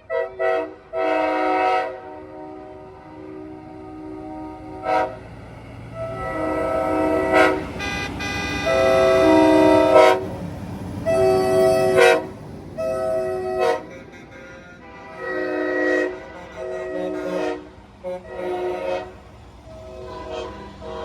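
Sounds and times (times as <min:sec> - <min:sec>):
truck air horns blasting: 0:00.0 - 0:10.4, 0:11.0 - 0:21.0.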